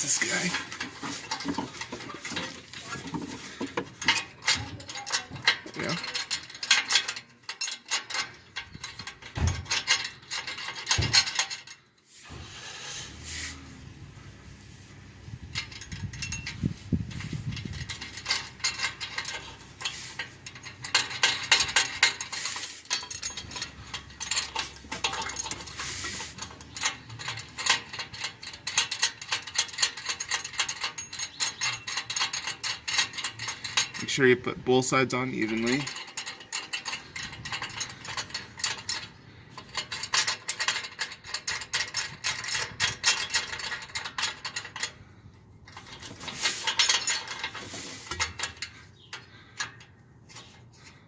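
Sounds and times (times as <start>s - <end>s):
metal parts clinking and rattling: 0.0s - 12.6s, 15.4s - 34.3s, 34.9s - 51.0s.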